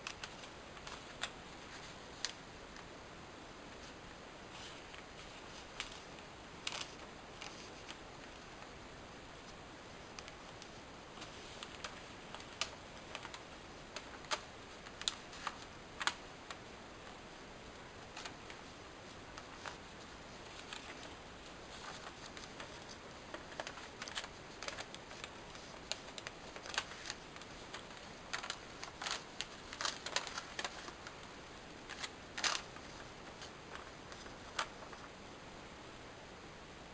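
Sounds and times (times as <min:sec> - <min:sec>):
paper crackling and rustling: 0:00.0 - 0:02.9, 0:03.7 - 0:08.7, 0:09.4 - 0:35.2
faint hiss: 0:00.0 - 0:36.9.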